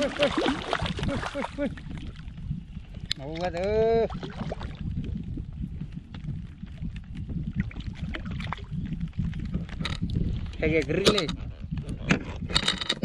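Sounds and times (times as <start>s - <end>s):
water lapping against hull: 0.0s - 13.0s
wind on microphone: 0.0s - 13.0s.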